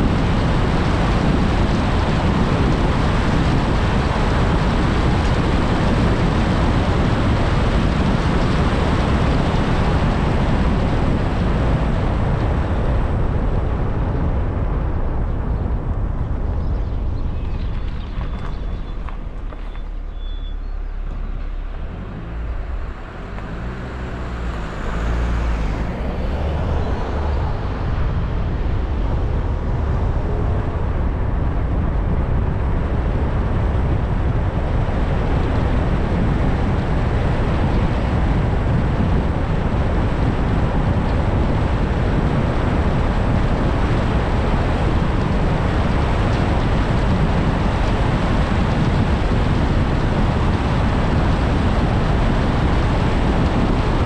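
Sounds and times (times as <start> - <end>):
car engine: 0.0 - 54.0
tyre road noise: 0.0 - 54.0.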